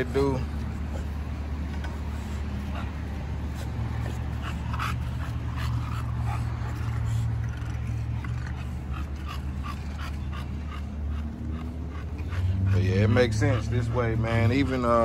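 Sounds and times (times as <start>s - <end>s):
dogs whining and yipping: 0.5s - 15.0s.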